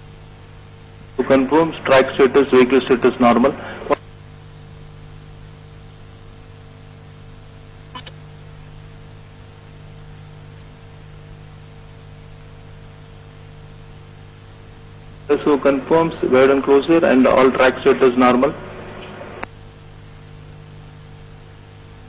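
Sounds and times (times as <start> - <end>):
electrical hum and hiss: 0.0 - 22.0.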